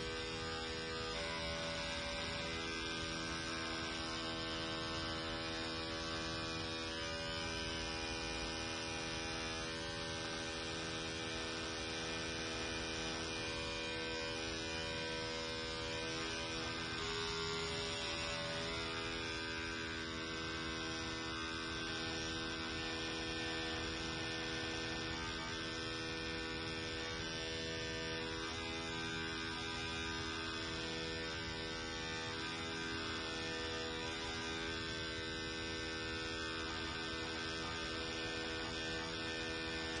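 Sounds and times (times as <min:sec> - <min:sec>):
electric toothbrush buzzing: 0:00.0 - 0:40.0.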